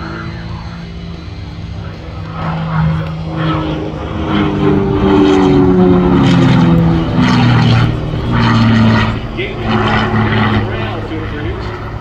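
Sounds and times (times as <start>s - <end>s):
propeller plane engine at high power: 0.0s - 12.0s.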